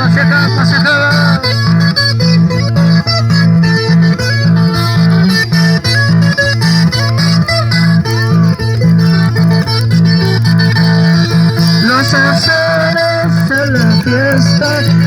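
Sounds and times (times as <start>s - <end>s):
bass line: 0.0s - 15.0s
plucked guitars: 0.0s - 15.0s.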